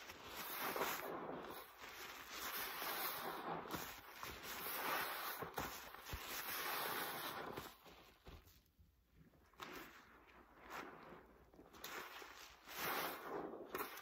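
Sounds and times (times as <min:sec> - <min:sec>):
sponge squelching in water: 0:00.0 - 0:08.6, 0:09.3 - 0:14.0.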